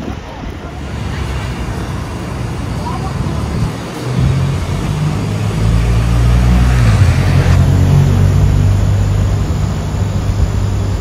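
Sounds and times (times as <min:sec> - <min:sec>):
rushing hiss: 0:00.0 - 0:11.0
vehicle engine humming: 0:00.0 - 0:11.0.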